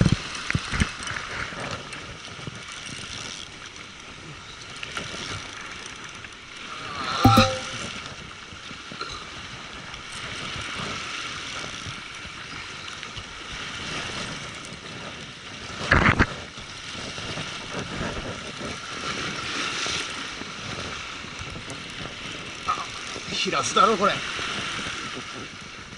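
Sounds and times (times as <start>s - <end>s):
wind: 0.0s - 8.0s, 9.0s - 25.9s.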